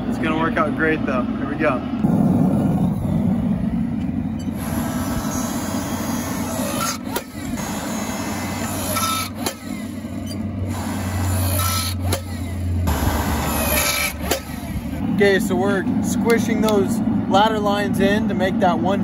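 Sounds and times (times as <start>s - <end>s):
hydraulic press engine droning: 0.0s - 18.8s.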